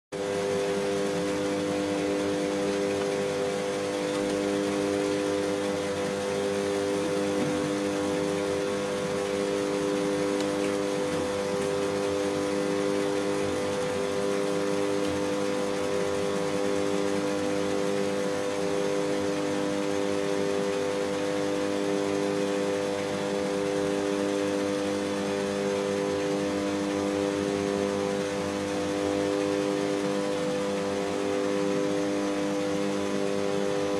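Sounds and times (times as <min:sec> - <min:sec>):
tanning booth whirring hum: 0:00.2 - 0:33.9.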